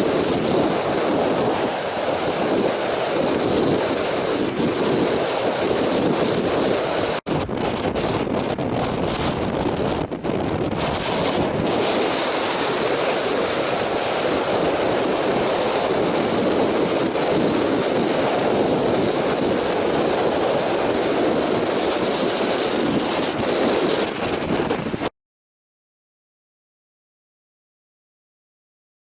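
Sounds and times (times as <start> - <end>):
strong wind on microphone: 0.0 - 25.1.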